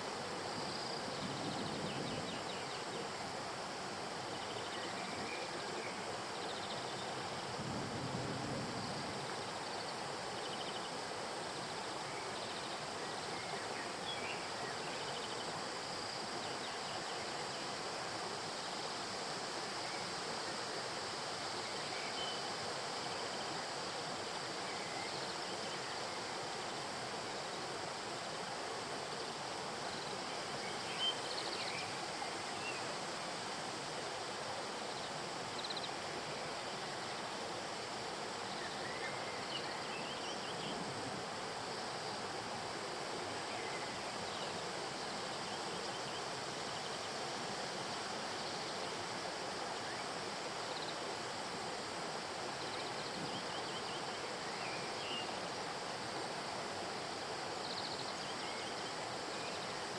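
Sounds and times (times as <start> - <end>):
flowing river water: 0.0 - 59.9.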